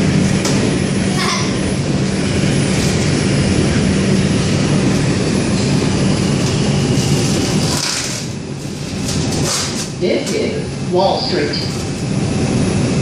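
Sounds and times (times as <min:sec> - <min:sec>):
low hum: 0:00.0 - 0:13.0
subway car rumble and rattle: 0:00.0 - 0:13.0.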